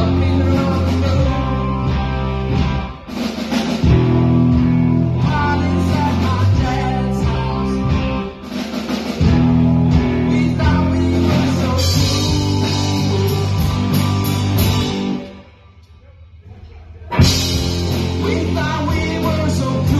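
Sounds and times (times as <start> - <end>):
drum kit: 0.0 - 15.6, 17.1 - 19.9
electric guitars: 0.0 - 15.8, 17.1 - 19.9.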